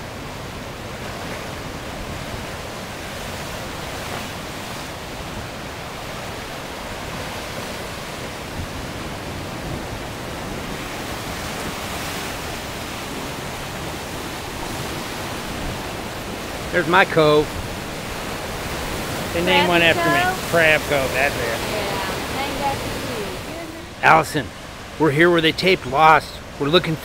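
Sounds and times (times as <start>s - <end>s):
ocean surf washing ashore: 0.0s - 27.0s.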